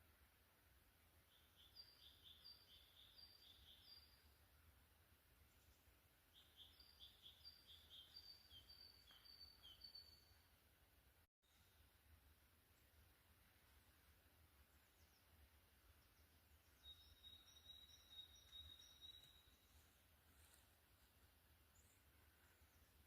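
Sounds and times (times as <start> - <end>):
songbird singing: 1.0 - 23.0.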